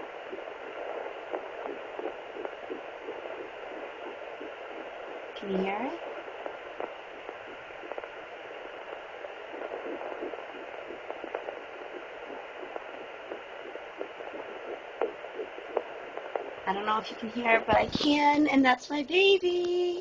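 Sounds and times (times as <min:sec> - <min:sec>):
faint quick heartbeat pulses: 0:00.0 - 0:18.6
static-like hiss: 0:00.0 - 0:20.0.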